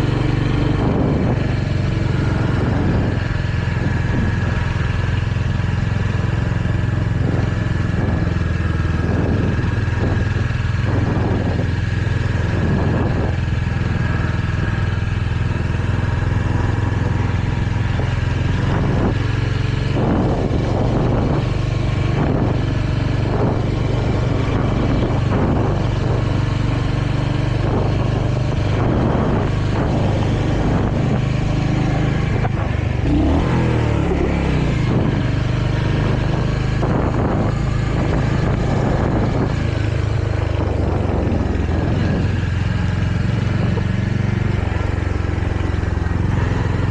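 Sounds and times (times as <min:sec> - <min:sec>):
motorcycle engine running: 0:00.0 - 0:46.9
road noise: 0:00.0 - 0:46.9
wind: 0:00.0 - 0:46.9.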